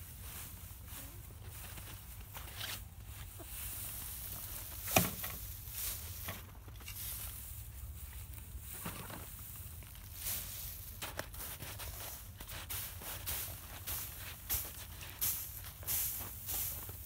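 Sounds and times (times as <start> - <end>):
straw rustling and crackling: 0.5 - 17.0.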